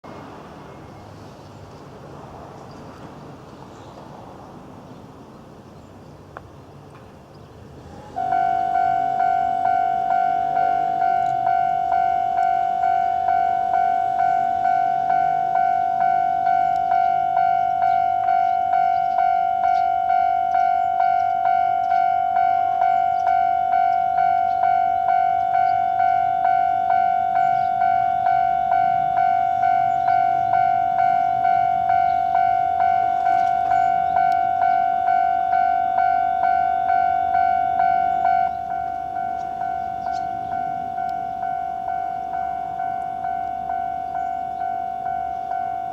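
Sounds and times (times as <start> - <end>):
passing train rumble: 0.0 - 45.9
level crossing warning bell: 7.8 - 45.9.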